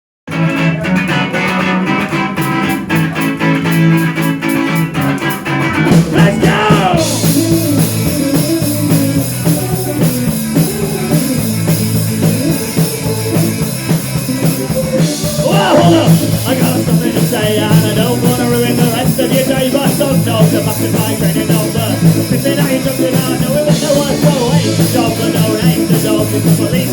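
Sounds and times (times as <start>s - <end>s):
rock band playing: 0.3s - 26.9s.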